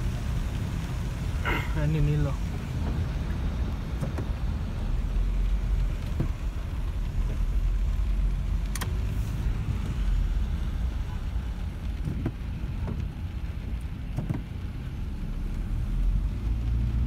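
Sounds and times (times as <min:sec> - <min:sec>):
engine and tyres rumbling: 0:00.0 - 0:17.0
water spraying from wheels: 0:00.0 - 0:17.0.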